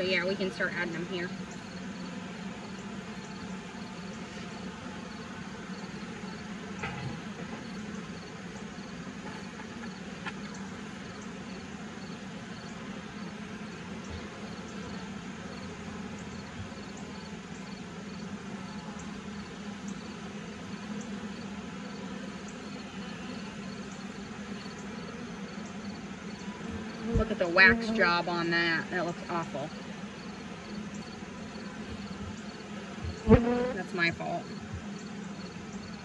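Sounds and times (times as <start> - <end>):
bees buzzing: 0.0 - 36.0.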